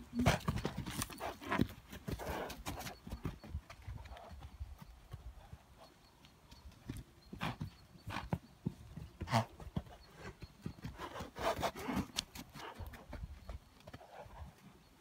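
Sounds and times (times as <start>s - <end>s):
hoofbeats on soft dirt: 0.0s - 15.0s.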